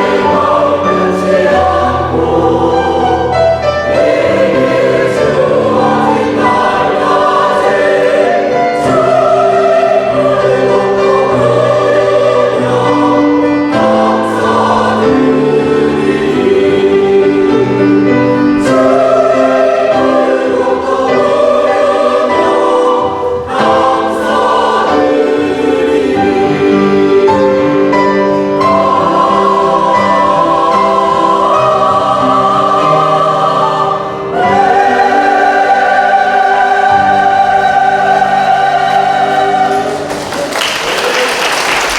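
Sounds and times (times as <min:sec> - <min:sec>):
church choir singing a hymn: 0:00.0 - 0:41.9.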